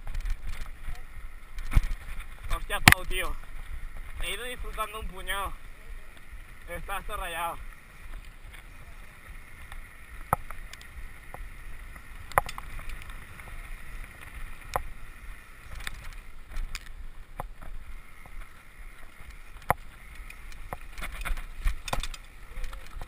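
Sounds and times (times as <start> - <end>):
mountain bike clicking: 0.0 - 23.0.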